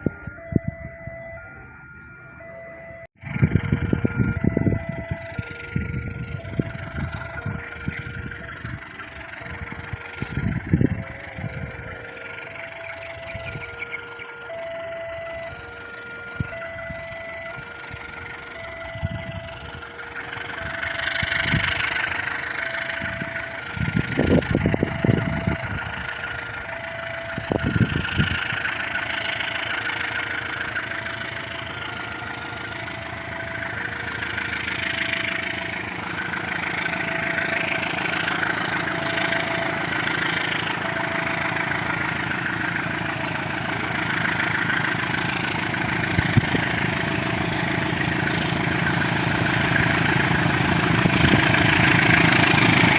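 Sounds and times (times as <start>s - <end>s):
heavy low rumbles: 0.0s - 52.9s
level crossing alarm: 0.0s - 52.9s
vehicle engines idling: 0.0s - 52.9s.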